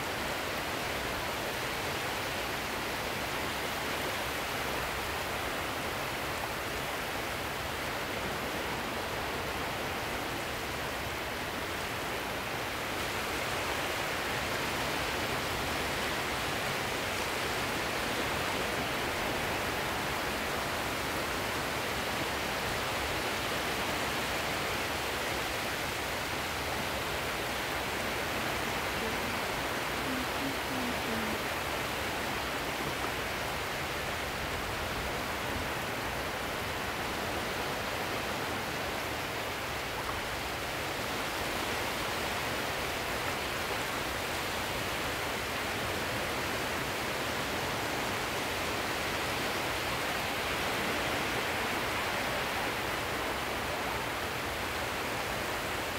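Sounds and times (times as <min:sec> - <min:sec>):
sea waves washing: 0:02.6 - 0:55.9.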